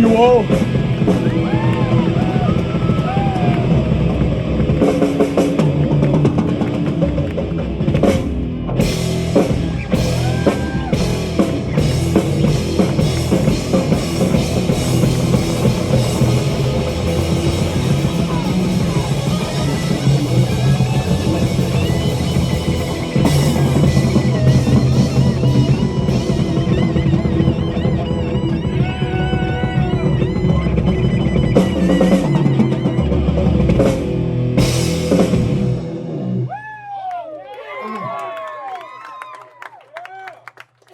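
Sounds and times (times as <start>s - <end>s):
live metal band playing: 0.0s - 36.5s.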